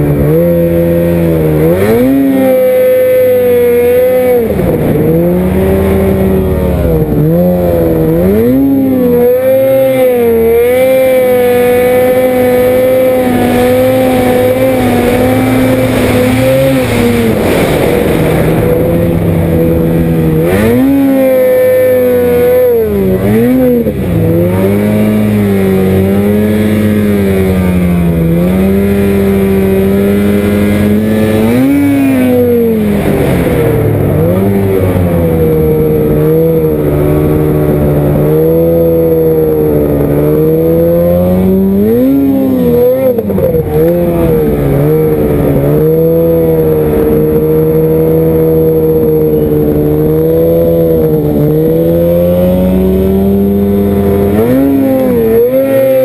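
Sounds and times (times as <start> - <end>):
snowmobile engine running under load: 0.0 - 56.0.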